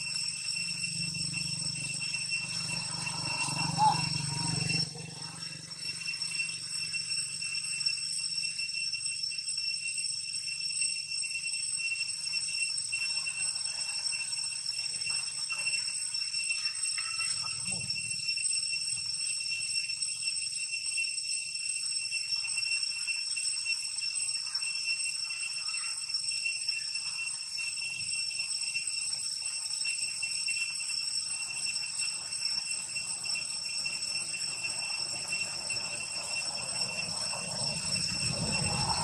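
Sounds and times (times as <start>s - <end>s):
steady high-pitched whine: 0.0s - 39.0s.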